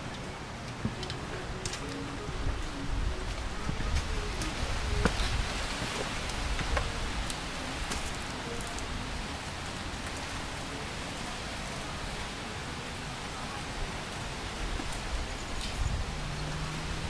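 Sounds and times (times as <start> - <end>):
rushing outdoor ambience: 0.0 - 17.0.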